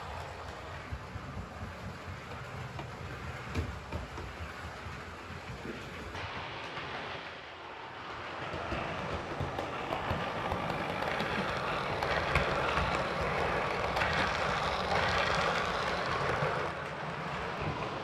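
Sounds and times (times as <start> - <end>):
model train rolling on track: 0.0 - 18.0.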